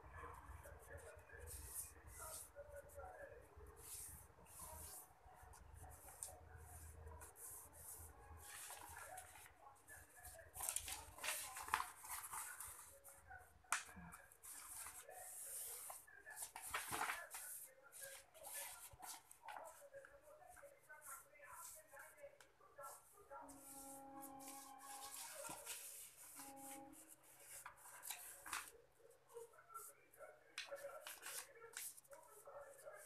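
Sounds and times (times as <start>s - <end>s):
paper rustling and crinkling: 0.6s - 3.2s, 3.8s - 33.0s.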